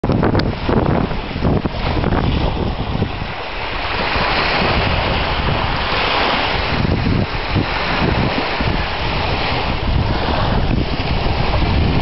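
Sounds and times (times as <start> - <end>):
waves washing up beach: 0.0 - 12.0
wind buffeting microphone: 0.0 - 12.0.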